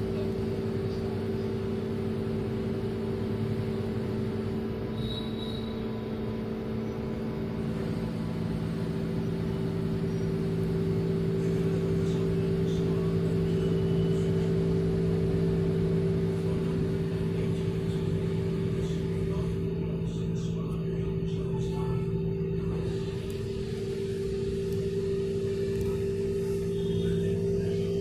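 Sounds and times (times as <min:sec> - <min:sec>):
washing machine spin cycle: 0:00.0 - 0:28.0.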